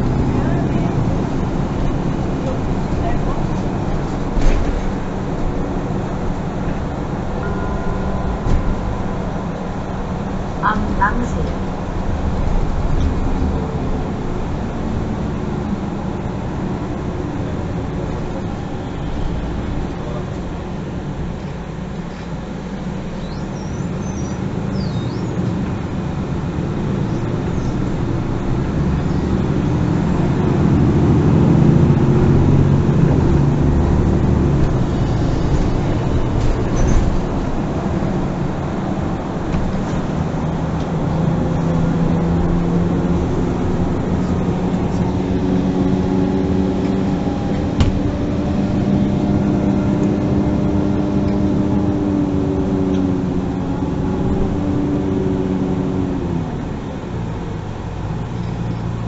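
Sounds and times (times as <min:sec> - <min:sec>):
bus diesel engine running: 0:00.0 - 0:59.0
tyre and road noise: 0:00.0 - 0:59.0.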